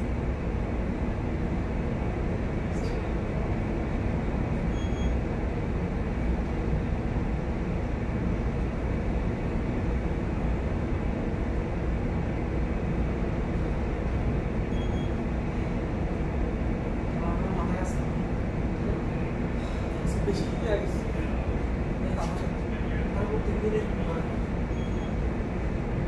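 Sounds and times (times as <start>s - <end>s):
ship engine rumble: 0.0s - 26.0s.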